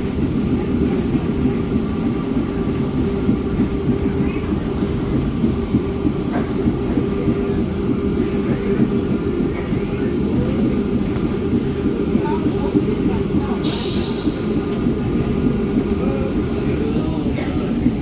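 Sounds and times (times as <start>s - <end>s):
subway train rumbling on track: 0.0s - 18.0s.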